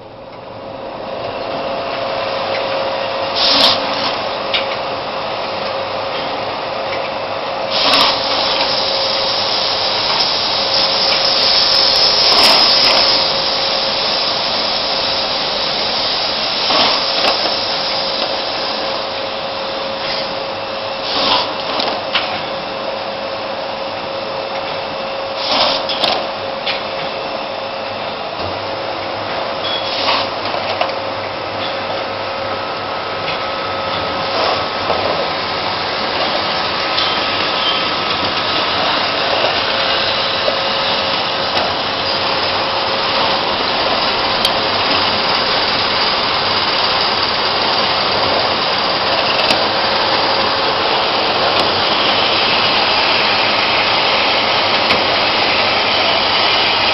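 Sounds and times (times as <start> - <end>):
machine whirring and hissing: 0.4 - 56.9.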